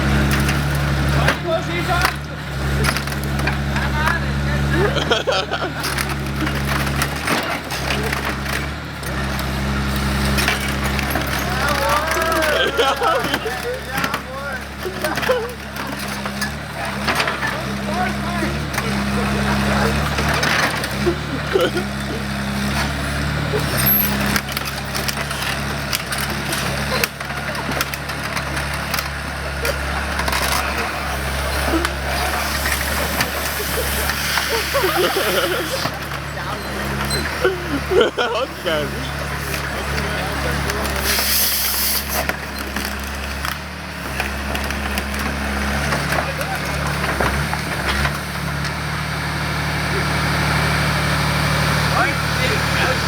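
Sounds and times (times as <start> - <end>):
car body crunching: 0.0 - 49.0
excavator engine running: 0.0 - 53.0.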